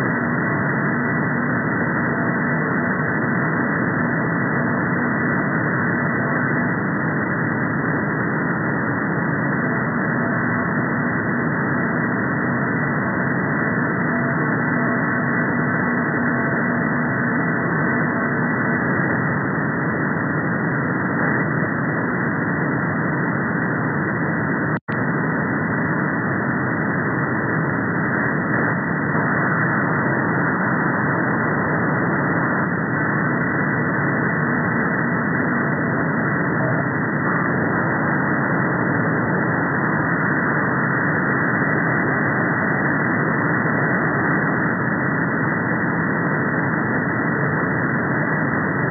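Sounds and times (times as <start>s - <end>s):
faint steady radio tones: 0.0s - 48.9s
radio static hiss: 0.0s - 48.9s.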